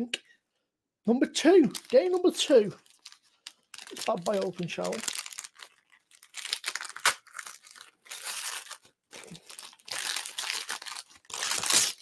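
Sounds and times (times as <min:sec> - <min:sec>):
wrapping paper tearing and rustling: 0:01.7 - 0:12.0.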